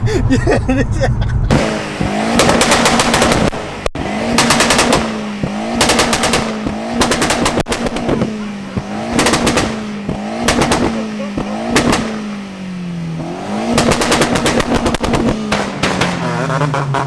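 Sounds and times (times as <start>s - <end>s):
car engine revving: 0.0s - 17.0s
exhaust pops and bangs: 1.5s - 17.0s.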